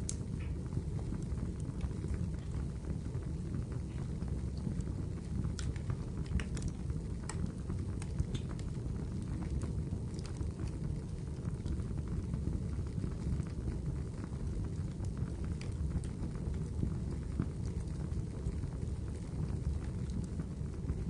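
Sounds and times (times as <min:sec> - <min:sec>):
fire popping and crackling: 0:00.0 - 0:21.0
wood fire rumbling: 0:00.0 - 0:21.0.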